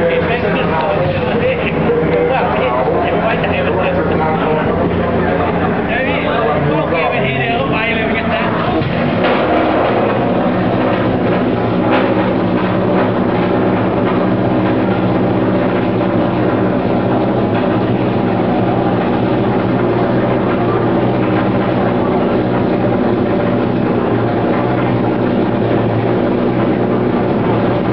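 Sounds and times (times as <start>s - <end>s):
car engine droning steadily: 0.0s - 27.9s.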